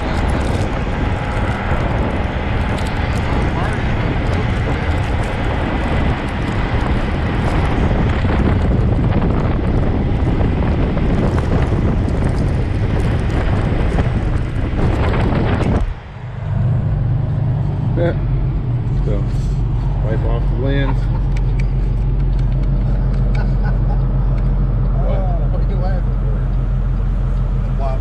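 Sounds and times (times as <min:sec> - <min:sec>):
low truck cab drone: 0:00.0 - 0:28.0
road and truck noise: 0:00.0 - 0:28.0
wind buffeting microphone: 0:00.0 - 0:28.0.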